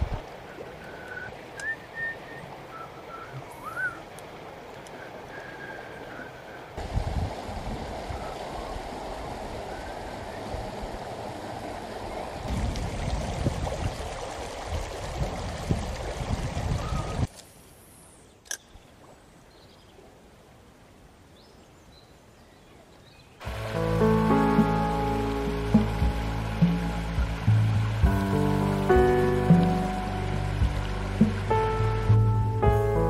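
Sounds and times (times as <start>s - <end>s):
river running over stones: 0.0s - 17.7s, 23.4s - 33.0s.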